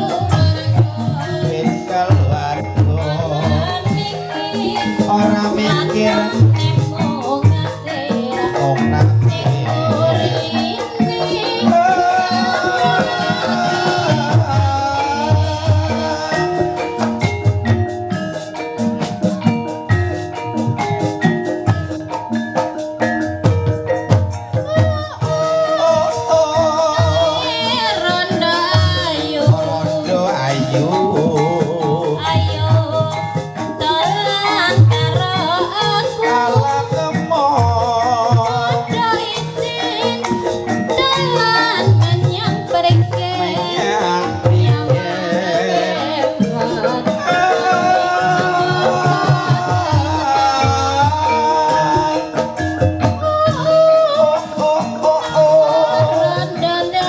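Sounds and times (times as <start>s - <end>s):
person singing wavering vocal: 0.0s - 17.4s, 24.6s - 57.0s
gamelan percussion and drums: 0.0s - 57.0s.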